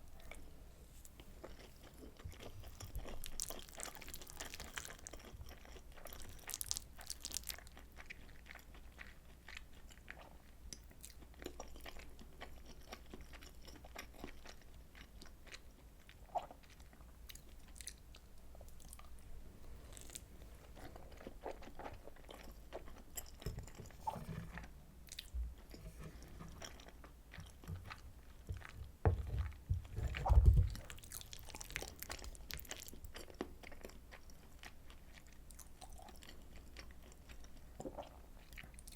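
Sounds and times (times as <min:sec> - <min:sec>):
wet chewing with mouth clicks: 0:00.1 - 0:38.9.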